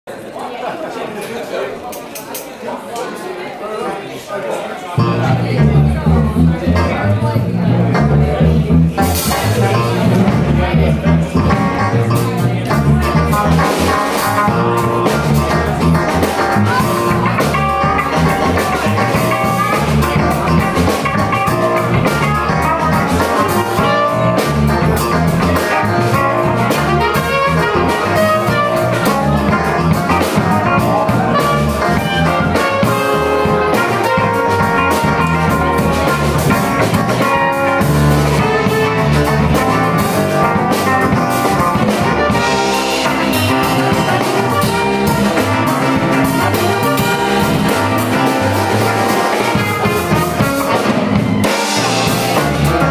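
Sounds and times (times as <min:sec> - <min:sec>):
funk band playing: 0:05.0 - 0:52.9.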